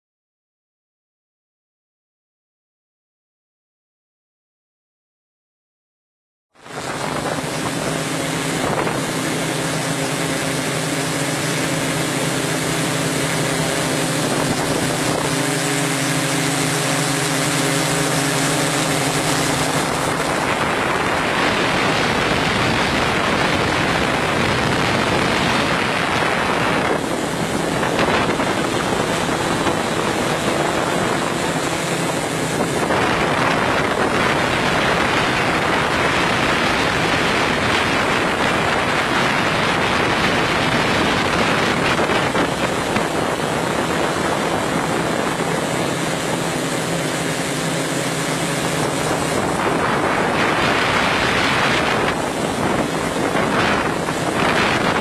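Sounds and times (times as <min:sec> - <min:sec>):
helicopter motor and rotor hum: 0:06.6 - 0:55.0.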